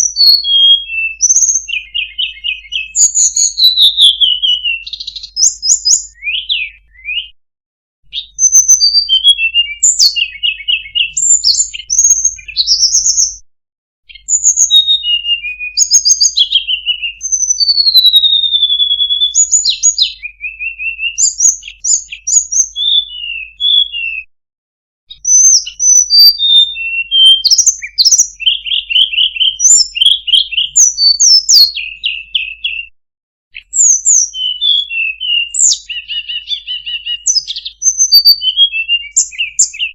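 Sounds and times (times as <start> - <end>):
songbird singing: 0.0 - 7.3, 8.0 - 13.4, 14.1 - 24.2, 25.1 - 32.9, 33.6 - 39.9.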